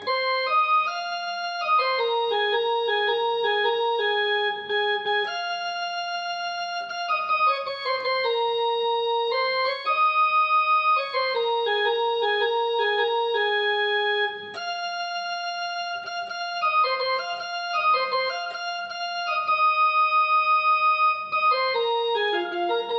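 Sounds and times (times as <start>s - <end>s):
slow keyboard melody: 0.0s - 22.9s.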